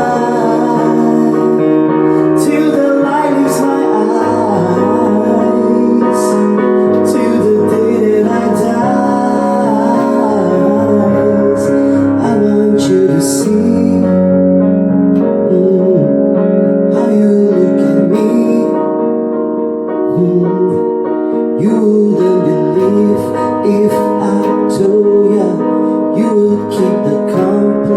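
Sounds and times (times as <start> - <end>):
pop song with piano: 0.0 - 27.9.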